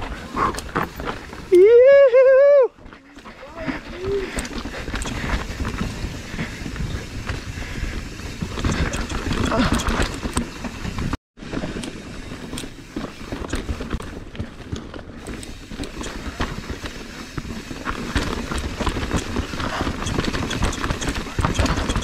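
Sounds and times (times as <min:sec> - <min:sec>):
bike tyres crunching over dirt: 0:00.0 - 0:22.0
bike chain rattling: 0:03.1 - 0:11.2, 0:11.8 - 0:22.0.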